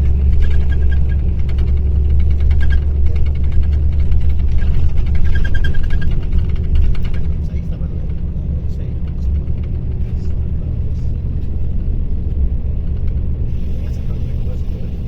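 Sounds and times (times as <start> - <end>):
diesel coach engine droning: 0.0 - 15.0.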